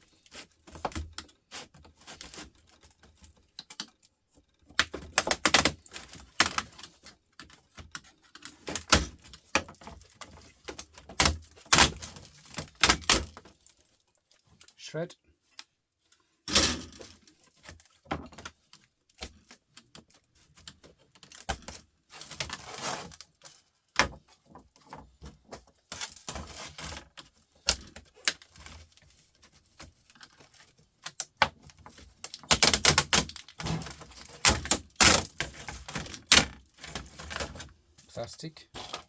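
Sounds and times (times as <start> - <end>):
plastic and metal parts clattering: 0.1 - 14.8, 15.4 - 39.0.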